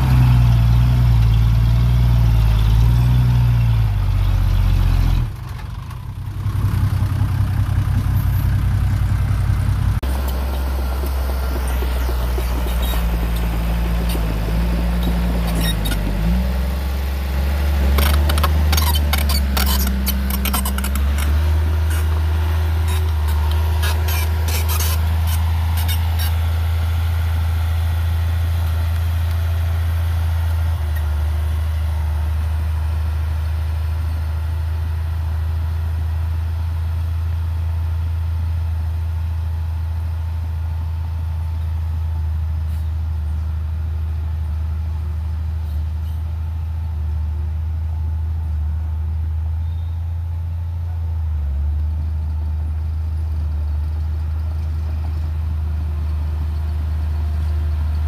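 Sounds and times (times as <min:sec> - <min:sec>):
heavy machine diesel engine drone: 0:00.0 - 0:58.0.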